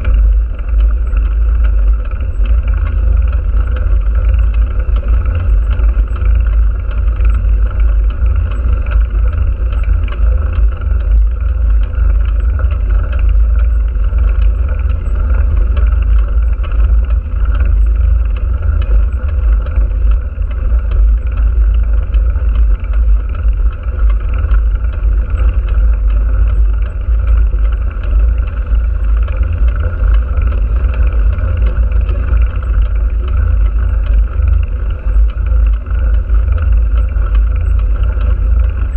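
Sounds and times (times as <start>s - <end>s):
constant drone: 0.0s - 38.9s
heavy wind rumble on microphone: 0.0s - 38.9s.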